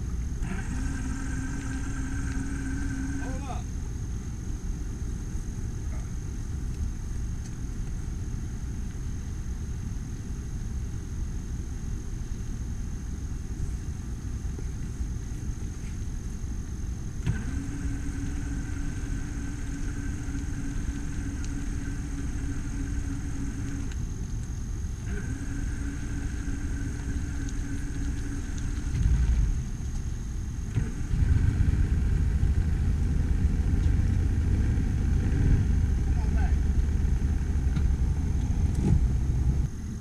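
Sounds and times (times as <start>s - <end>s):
high steady whine: 0.0s - 40.0s
motor low rumble: 0.0s - 40.0s.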